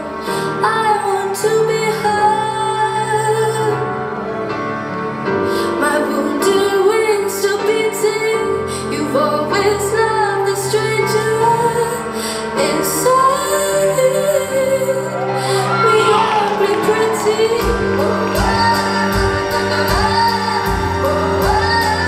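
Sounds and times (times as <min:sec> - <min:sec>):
woman singing with accompaniment: 0:00.0 - 0:04.6, 0:05.4 - 0:22.0.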